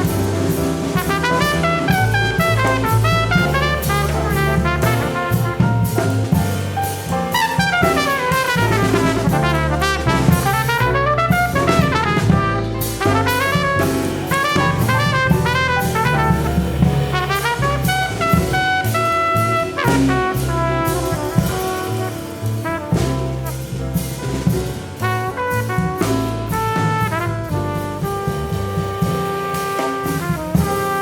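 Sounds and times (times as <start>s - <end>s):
trumpet runs: 0.0s - 6.4s, 7.3s - 23.8s, 25.0s - 31.0s
drums: 0.0s - 31.0s
piano: 0.0s - 31.0s
walking bass: 0.0s - 31.0s.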